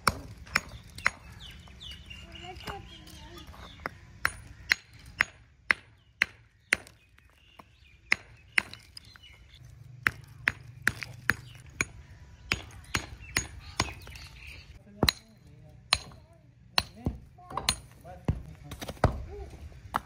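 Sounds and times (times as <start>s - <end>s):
hammer crushing bricks: 0.0s - 1.4s, 3.5s - 14.3s, 15.0s - 20.0s.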